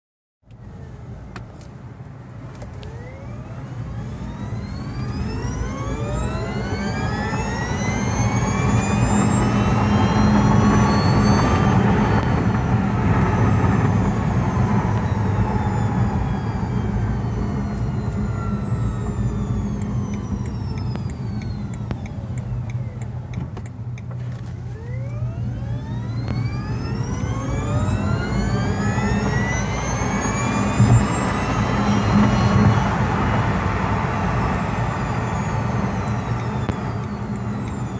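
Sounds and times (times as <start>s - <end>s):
electric car artificial engine tones: 2.3s - 37.9s.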